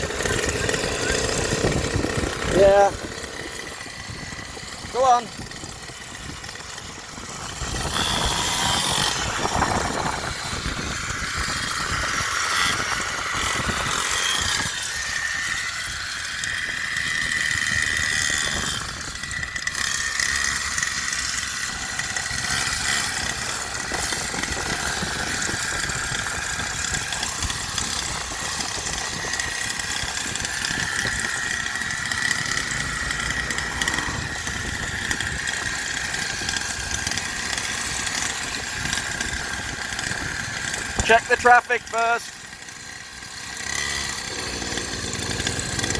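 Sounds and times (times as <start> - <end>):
small dirt bike engine buzzing: 0.0 - 45.9.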